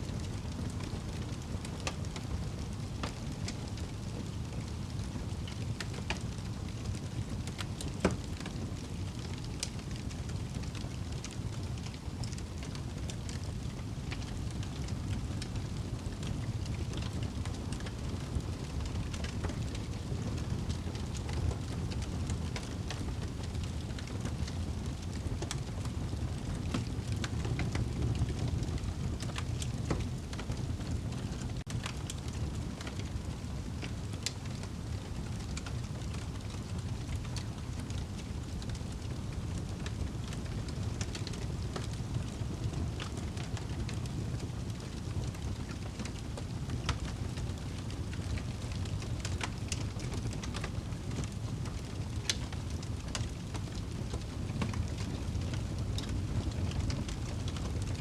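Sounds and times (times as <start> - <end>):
fire flames roaring: 0.1 - 57.9
fire crackling and popping: 0.1 - 58.0.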